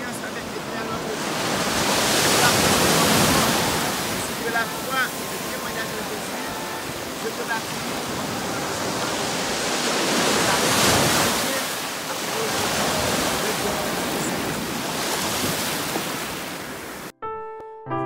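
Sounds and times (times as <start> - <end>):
waves breaking and washing in: 0.0 - 17.1.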